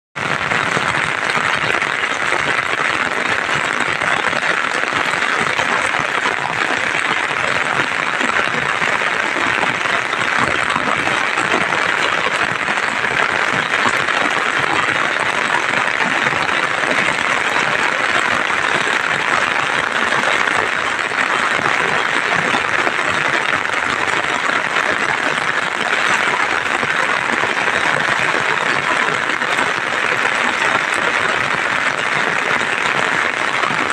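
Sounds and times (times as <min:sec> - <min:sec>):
rain falling: 0:00.2 - 0:33.9.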